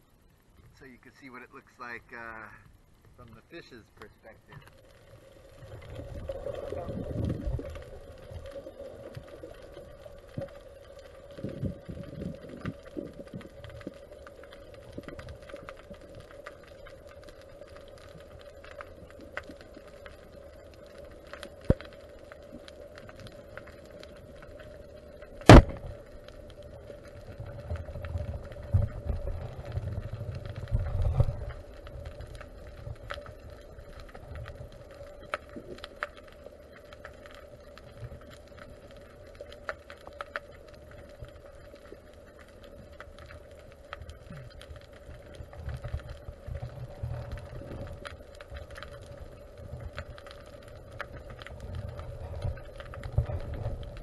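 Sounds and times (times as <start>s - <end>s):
low rumbling of water movement: 0.0s - 54.0s
steady underwater hum: 0.0s - 54.0s.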